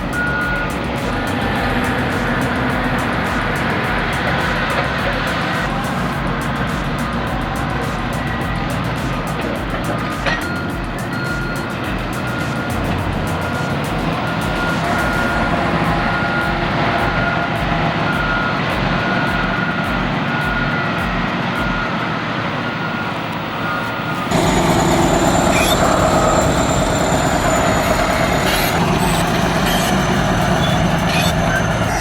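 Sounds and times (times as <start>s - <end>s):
backup alarm beeping: 0.0s - 32.0s
heavy machine diesel engine: 0.0s - 32.0s
thin high whine: 0.0s - 32.0s.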